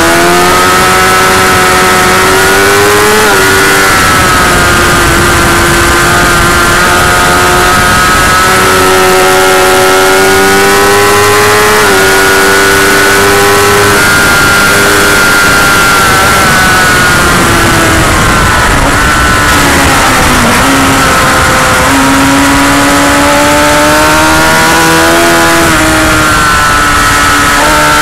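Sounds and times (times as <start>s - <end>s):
motorcycle engine at high revs: 0.0s - 28.0s
steady rushing noise: 0.0s - 28.0s.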